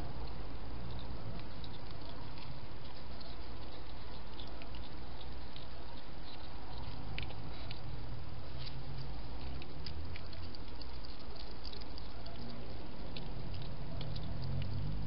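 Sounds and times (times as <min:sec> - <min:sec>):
hedgehog chewing and smacking: 0:00.0 - 0:15.0
steady low hum: 0:00.0 - 0:15.0.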